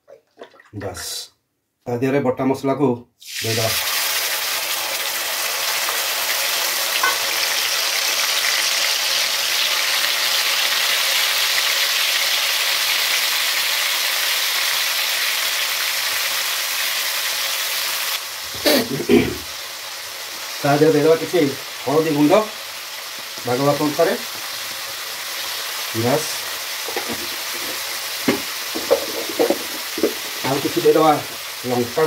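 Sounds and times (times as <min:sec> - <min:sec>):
spice paste sizzling in hot oil: 0:03.2 - 0:32.0.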